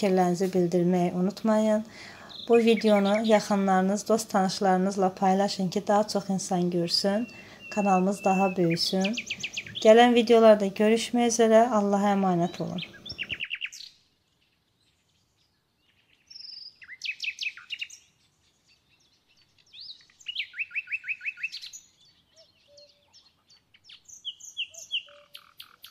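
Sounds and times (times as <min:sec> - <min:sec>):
birds chirping: 0:00.0 - 0:25.9.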